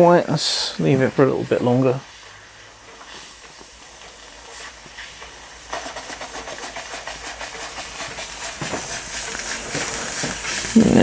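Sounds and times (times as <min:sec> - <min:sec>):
rapid puffs of steam: 0:00.0 - 0:11.0
steam engine hissing: 0:00.0 - 0:11.0.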